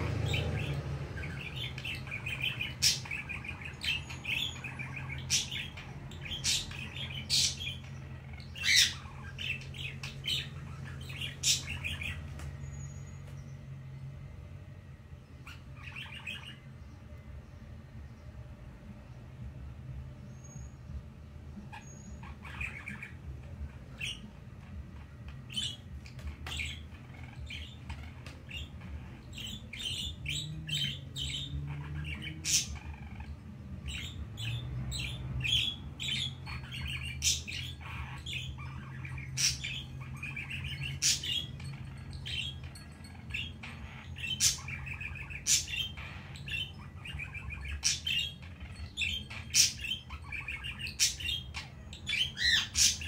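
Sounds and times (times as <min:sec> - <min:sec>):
budgerigar chattering and warbling: 0:00.2 - 0:12.3, 0:21.6 - 0:53.0.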